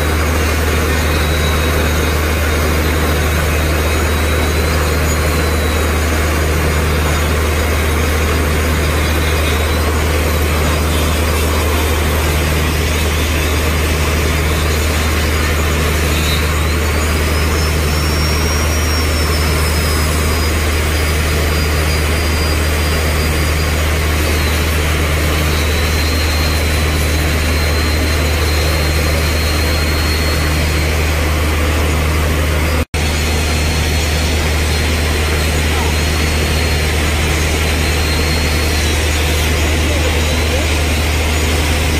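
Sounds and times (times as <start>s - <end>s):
electric grinder whine: 0.0s - 41.9s
low engine drone: 0.0s - 41.9s.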